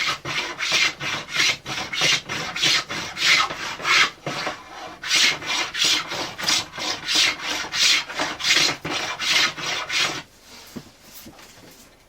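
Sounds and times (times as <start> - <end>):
block plane rasping on wood: 0.0 - 10.3.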